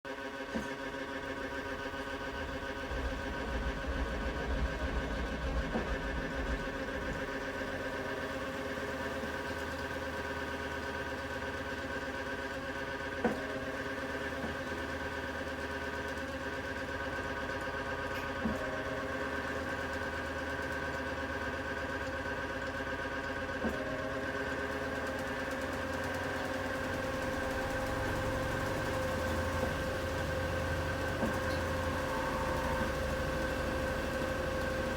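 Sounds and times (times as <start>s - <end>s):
machine whine: 0.5s - 22.5s, 23.4s - 34.9s.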